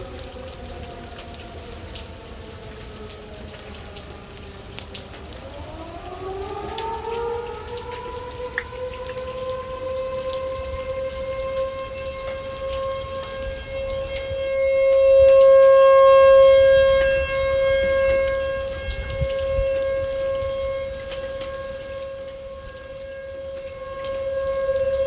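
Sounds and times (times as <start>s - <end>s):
rain pattering: 0.0s - 25.0s
raindrops ticking close by: 0.0s - 25.0s
tornado warning siren wailing: 0.0s - 25.0s.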